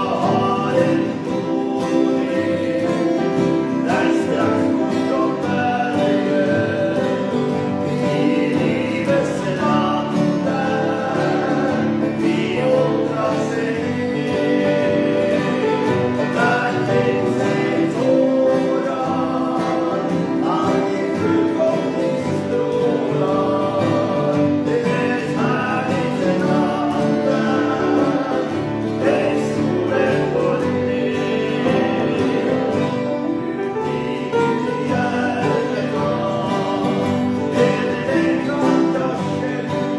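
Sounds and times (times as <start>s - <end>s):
strummed acoustic guitars: 0.0s - 39.9s
two men singing a hymn: 0.0s - 39.9s.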